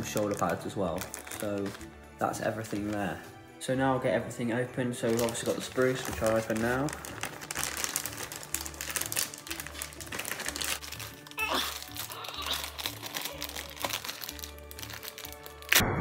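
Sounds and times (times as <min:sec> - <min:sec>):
plastic bag crinkling: 0:00.0 - 0:03.4, 0:04.3 - 0:15.8.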